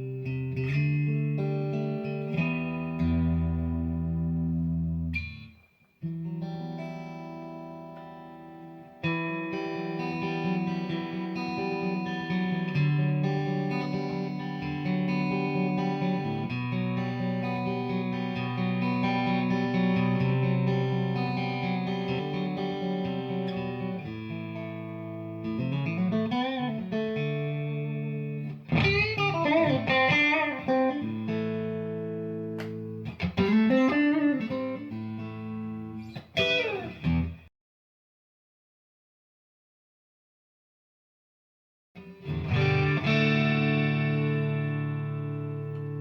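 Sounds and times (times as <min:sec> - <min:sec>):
electric guitar chords ringing: 0:00.0 - 0:37.5, 0:42.0 - 0:46.0
electric guitar lead with bends: 0:00.0 - 0:37.5, 0:42.0 - 0:46.0.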